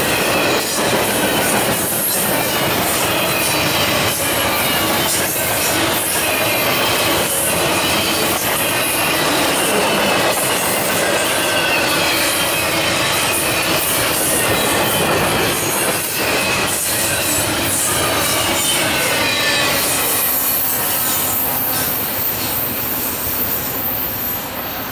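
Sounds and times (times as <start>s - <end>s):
high squeal of wheels on rail: 0.0s - 24.9s.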